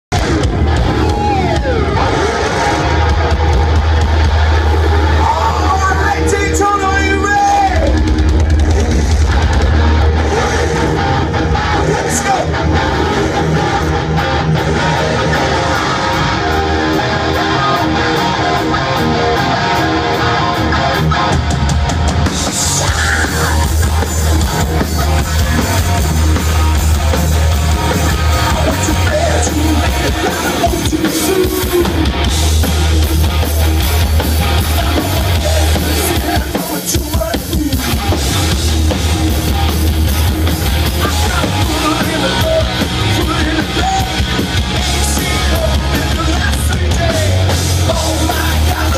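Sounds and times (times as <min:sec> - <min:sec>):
distorted electric guitars: 0:00.0 - 0:48.9
live rock band: 0:00.1 - 0:48.9
pounding drum kit: 0:00.1 - 0:48.9.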